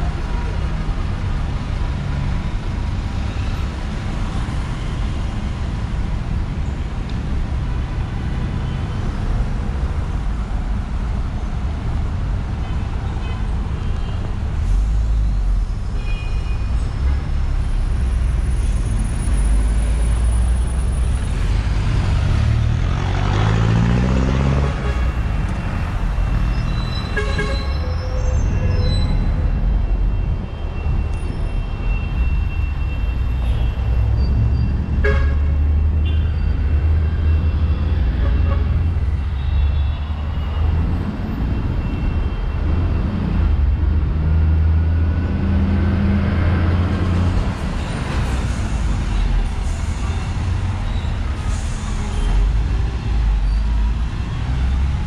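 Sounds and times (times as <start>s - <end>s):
traffic passing: 0.0s - 16.0s, 16.6s - 55.0s.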